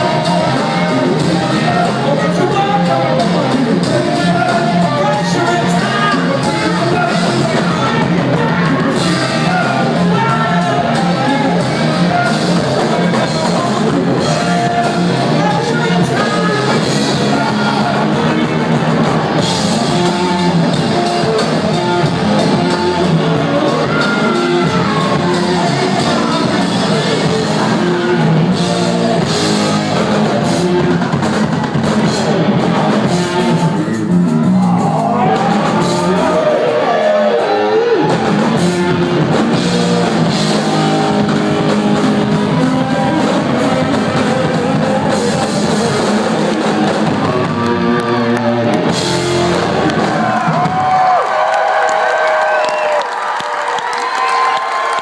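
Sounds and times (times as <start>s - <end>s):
person singing: 0.0s - 50.8s
drum kit: 0.0s - 55.0s
electric guitar: 0.0s - 55.0s.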